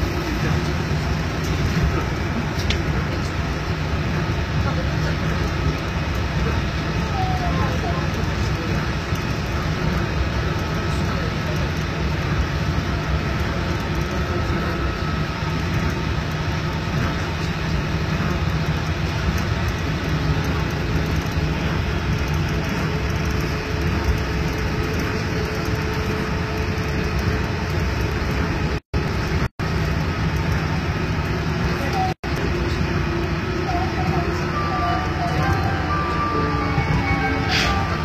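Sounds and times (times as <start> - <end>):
monorail car rumble with whine: 0.0 - 38.0.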